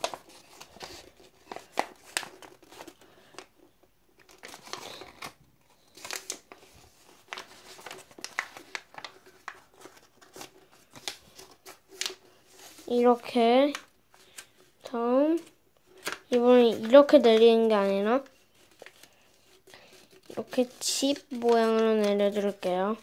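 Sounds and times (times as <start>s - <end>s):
paper rustling and creasing: 0.0s - 23.0s.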